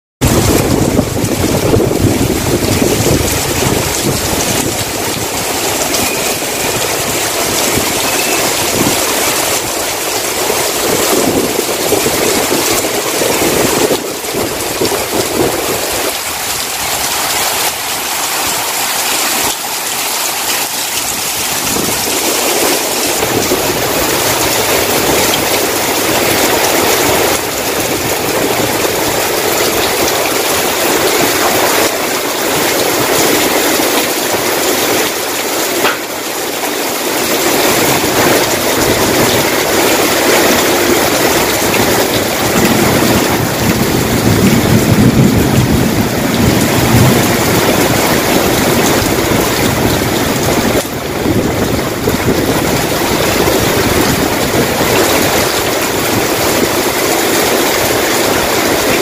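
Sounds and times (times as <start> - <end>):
heavy rain hissing on cars and pavement: 0.2 - 59.0
wind gusting against microphone: 0.2 - 59.0.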